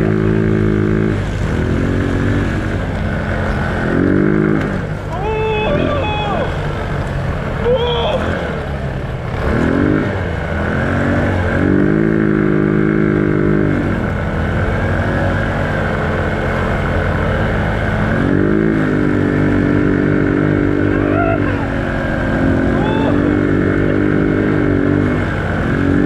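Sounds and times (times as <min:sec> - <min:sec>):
small vehicle engine revving: 0:00.0 - 0:26.0.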